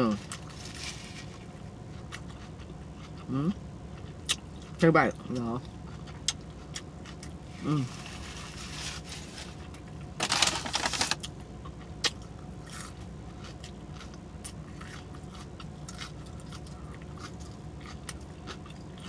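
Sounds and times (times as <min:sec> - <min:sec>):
loud crunching chewing: 0:00.2 - 0:03.3, 0:05.8 - 0:19.0.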